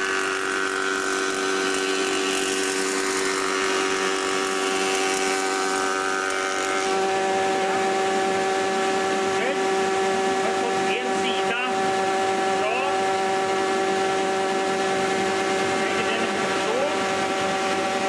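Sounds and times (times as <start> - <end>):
hissing wood cutting noise: 0.0 - 18.0
jointer-planer whining: 0.0 - 18.0.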